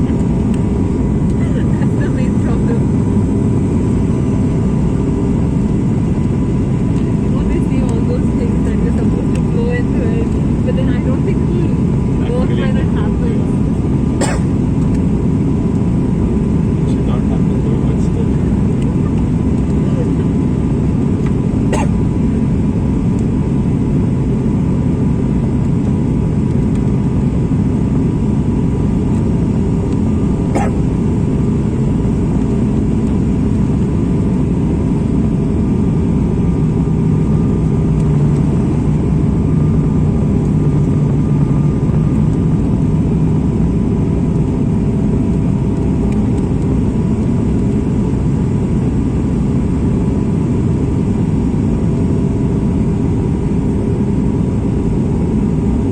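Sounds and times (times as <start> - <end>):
airliner cabin rumble: 0.0 - 55.9.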